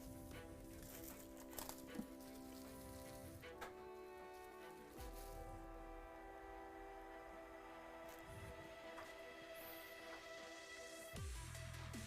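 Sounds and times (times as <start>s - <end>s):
faint music with sustained tones: 0.0s - 12.0s.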